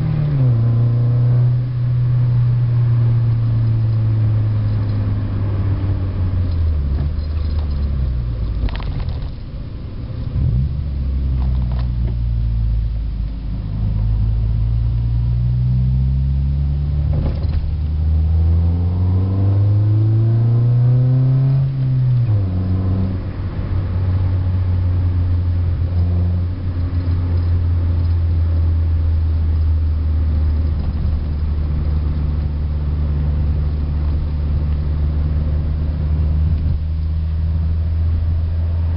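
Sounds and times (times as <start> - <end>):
car engine droning inside cabin: 0.0 - 38.9.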